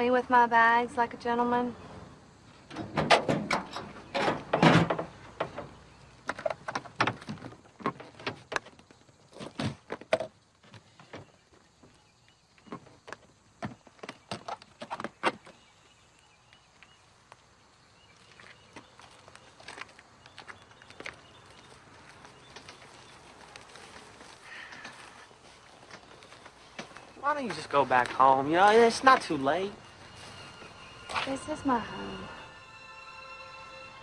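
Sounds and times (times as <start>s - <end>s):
suitcases set down on gravel: 2.7s - 32.0s.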